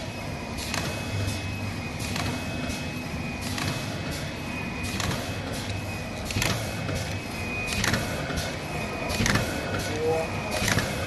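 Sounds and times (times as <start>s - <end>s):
printing machine mechanical hum: 0.0s - 11.0s
printing machine sharp clack: 0.5s - 11.0s.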